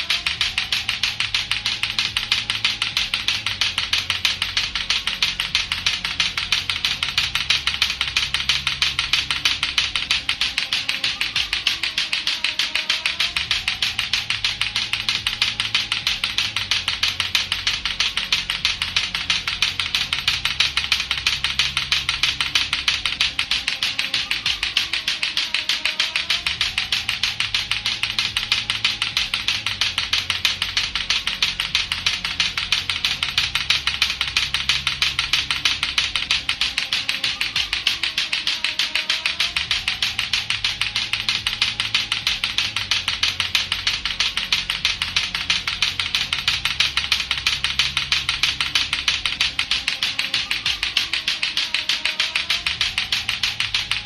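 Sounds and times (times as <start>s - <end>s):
plastic clacker balls clacking: 0.0s - 54.0s.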